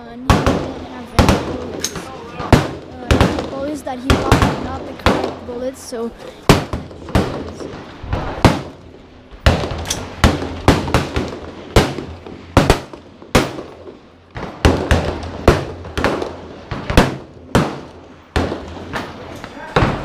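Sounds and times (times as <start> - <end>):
gunshots with echo: 0.3 - 5.5, 6.4 - 19.2.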